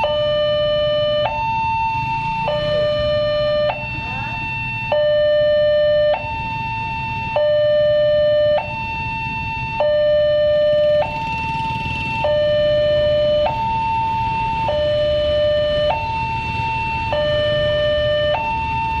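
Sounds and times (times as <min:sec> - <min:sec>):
level crossing two-tone warning alarm: 0:00.0 - 0:19.0.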